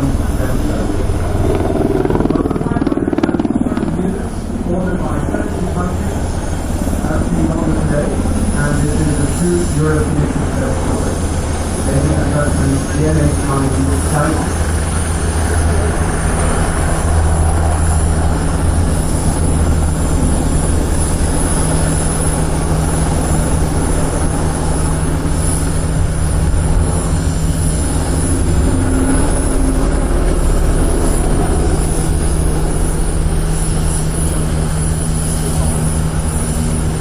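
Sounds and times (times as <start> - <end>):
helicopter drone: 0.0 - 37.0.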